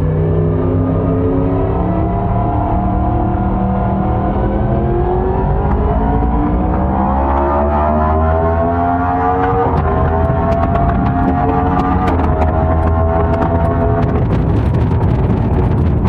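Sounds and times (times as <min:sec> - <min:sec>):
motorcycle engine and exhaust: 0:00.0 - 0:16.0.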